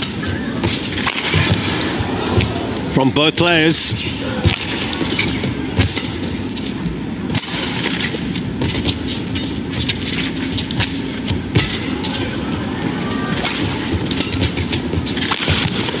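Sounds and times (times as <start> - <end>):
racket hitting shuttlecock: 0.0 - 2.9, 3.9 - 16.0
arena crowd hum: 0.0 - 16.0.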